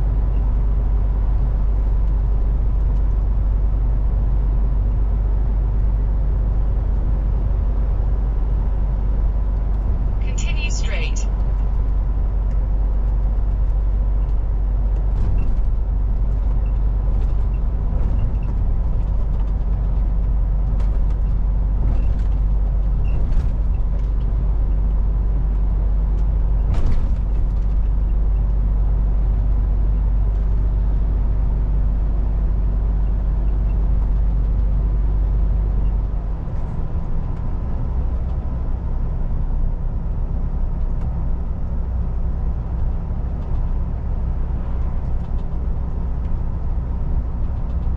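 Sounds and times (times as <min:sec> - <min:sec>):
truck diesel engine and road noise: 0:00.0 - 0:47.9.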